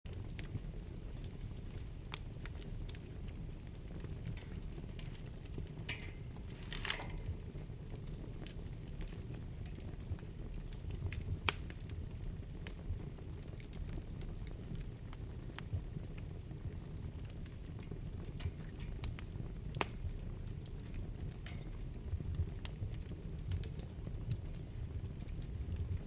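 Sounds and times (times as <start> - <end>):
wood fire crackling in fireplace: 0.1 - 26.0.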